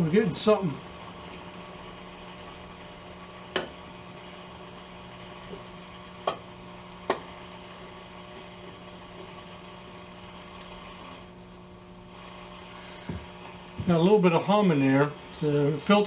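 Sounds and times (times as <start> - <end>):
radio speaker humming: 0.0 - 16.0.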